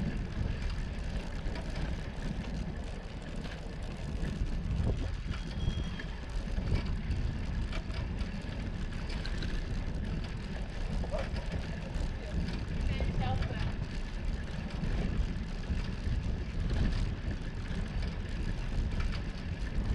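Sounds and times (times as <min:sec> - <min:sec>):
bicycle rattles and clicks: 0:00.0 - 0:19.9
bicycle tyres rumbling on bricks: 0:00.0 - 0:19.9.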